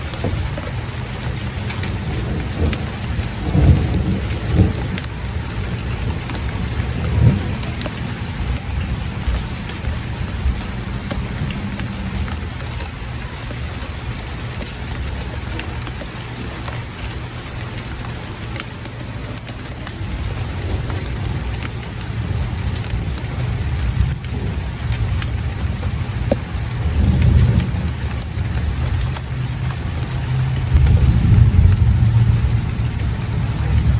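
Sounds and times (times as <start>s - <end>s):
low rumbles: 0.0s - 33.9s
steady rain falling: 0.0s - 33.9s.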